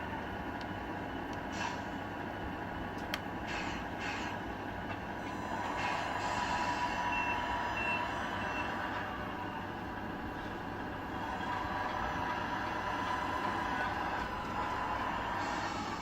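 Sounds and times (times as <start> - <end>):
model truck engine sound: 0.0 - 16.0.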